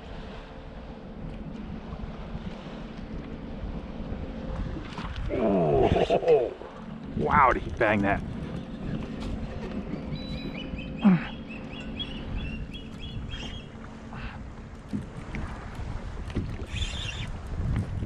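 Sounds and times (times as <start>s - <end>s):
trolling motor humming: 0.0s - 18.0s
water and wind noise: 0.0s - 18.0s.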